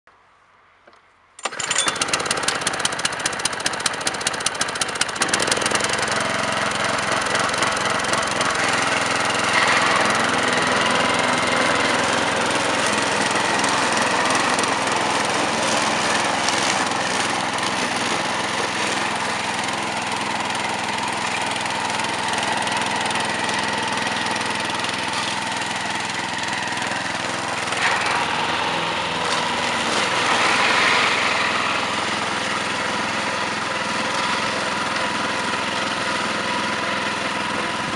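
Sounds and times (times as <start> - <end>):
lawn mower engine running: 0.9 - 37.9.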